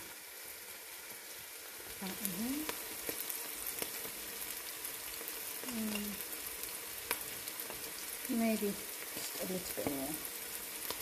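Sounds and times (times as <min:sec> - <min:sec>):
vegetables sizzling in hot oil: 0:00.0 - 0:11.0
sharp oil crackles: 0:00.9 - 0:11.0.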